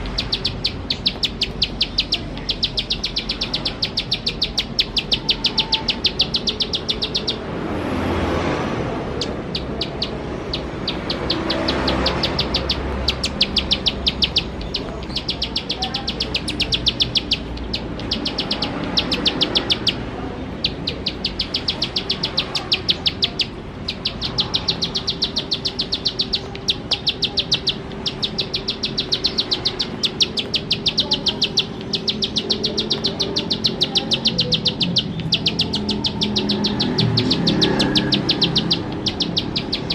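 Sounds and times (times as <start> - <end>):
bird singing rapid high notes: 0.0 - 8.5, 9.1 - 39.9.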